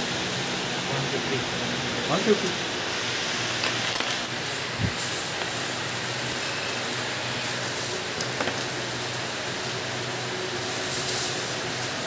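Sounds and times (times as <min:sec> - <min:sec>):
shop background hiss: 0:00.0 - 0:12.0.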